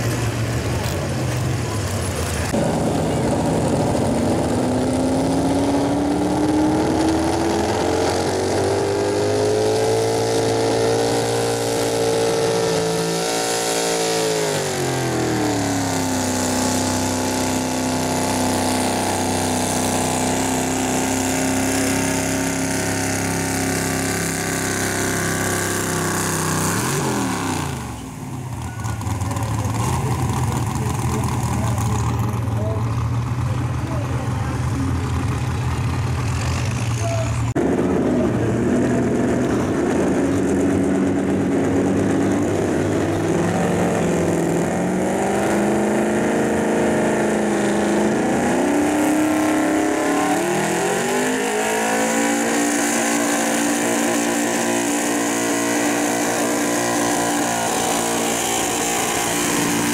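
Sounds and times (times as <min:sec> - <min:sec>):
pulling truck engine revving: 0:00.0 - 0:59.9.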